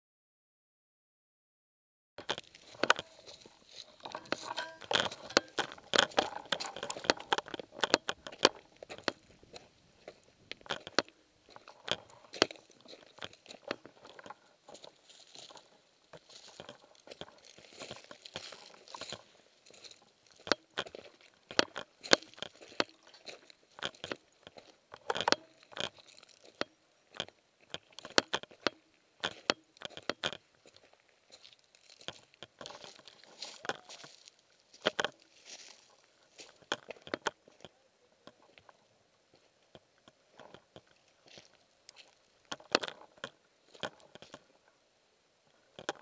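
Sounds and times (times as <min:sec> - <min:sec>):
footsteps on gravel and leaves: 0:02.2 - 0:37.7, 0:40.3 - 0:44.5.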